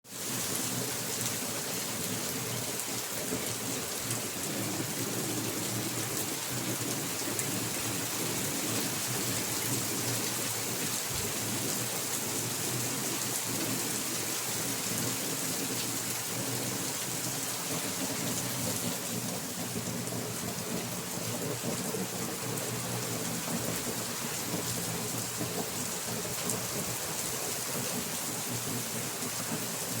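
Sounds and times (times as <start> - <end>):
rain falling steadily: 0.0 - 30.0.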